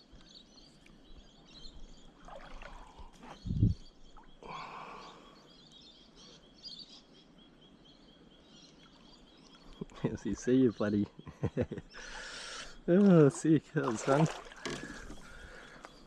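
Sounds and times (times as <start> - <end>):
faint bird chirps: 0.0 - 12.9.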